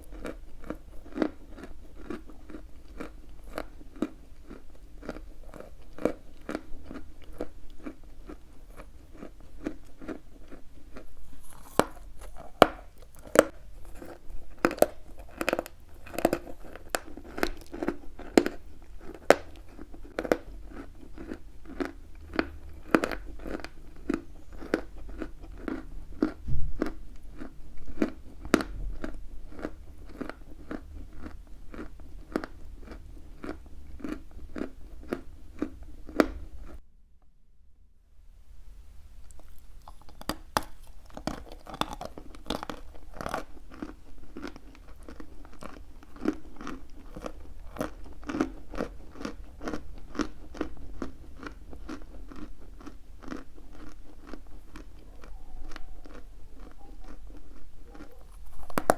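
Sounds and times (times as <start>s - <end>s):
chalk being chewed: 0.0s - 36.8s, 39.2s - 58.9s.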